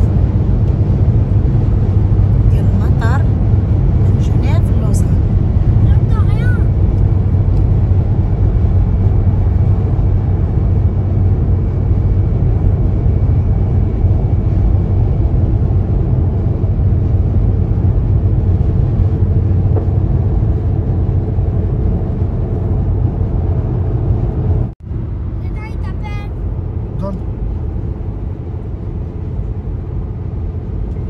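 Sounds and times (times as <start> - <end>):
road and engine noise inside car: 0.0 - 31.0.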